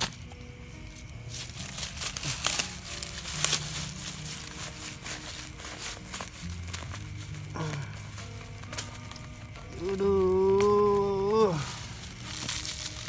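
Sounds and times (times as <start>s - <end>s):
crinkly rustling and crackling: 0.0s - 13.0s.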